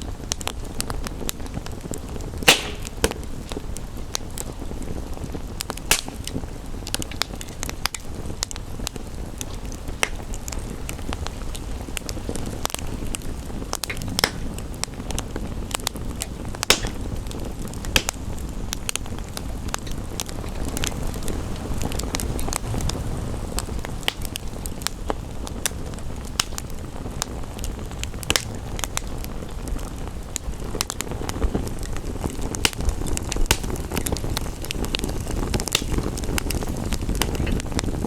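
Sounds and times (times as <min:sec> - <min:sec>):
rain hissing: 0:00.0 - 0:38.0
wood fire crackling: 0:00.0 - 0:38.0.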